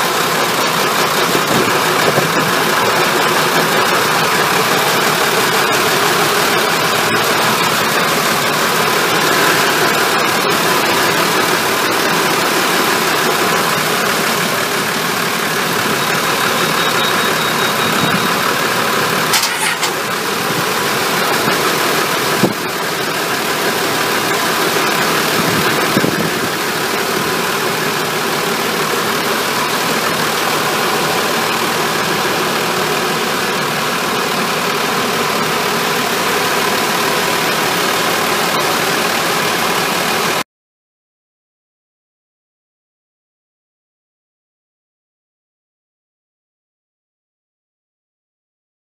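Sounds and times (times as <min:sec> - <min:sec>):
diesel engines running: 0:00.0 - 0:40.4.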